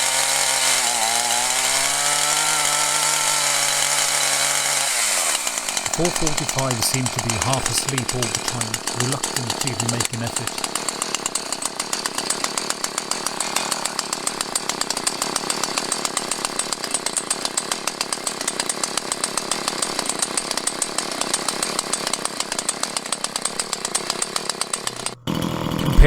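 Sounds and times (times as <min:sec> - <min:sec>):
chainsaw engine running: 0:00.0 - 0:26.0.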